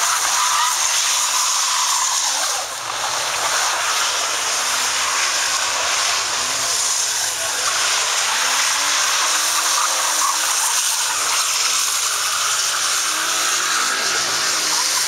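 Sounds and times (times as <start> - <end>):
car engine at high revs: 0.0 - 15.0
tyres spinning on wet pavement: 0.0 - 15.0.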